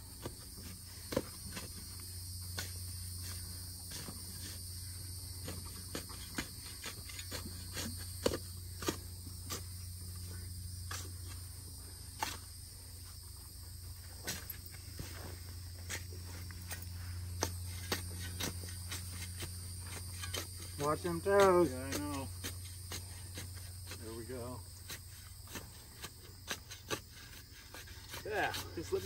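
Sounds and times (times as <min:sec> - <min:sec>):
low steady hum: 0:00.0 - 0:28.9
insects droning: 0:00.0 - 0:29.0.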